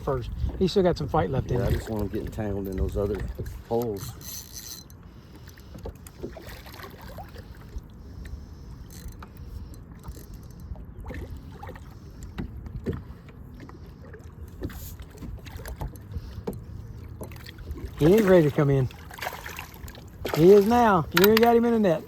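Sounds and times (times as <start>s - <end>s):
boat engine low rumble: 0.0s - 22.0s.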